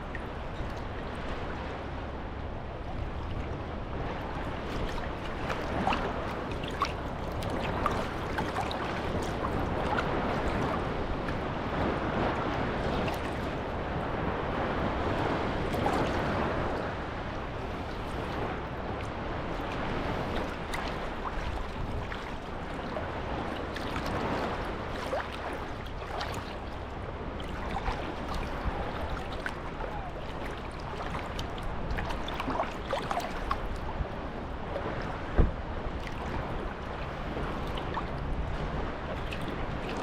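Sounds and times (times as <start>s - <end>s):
small waves lapping at shore: 0.0s - 40.0s.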